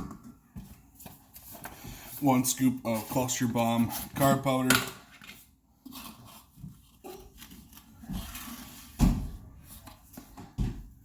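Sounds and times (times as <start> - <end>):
plastic tubs rustling and rattling: 0.0 - 11.0.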